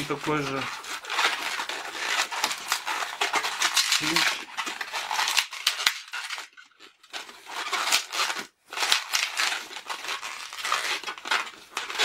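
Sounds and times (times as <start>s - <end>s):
hands rubbing a balloon: 0.0s - 12.0s.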